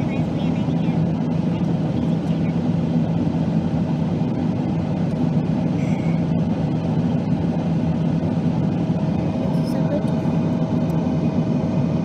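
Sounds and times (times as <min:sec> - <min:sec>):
jet cabin low rumble: 0:00.0 - 0:12.0.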